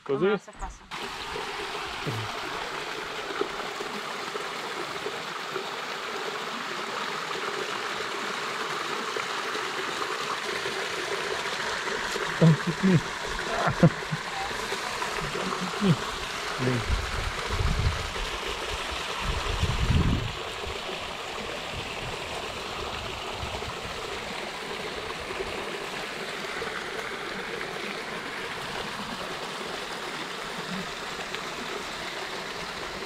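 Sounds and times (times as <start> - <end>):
stream running over rocks: 0.2 - 33.0.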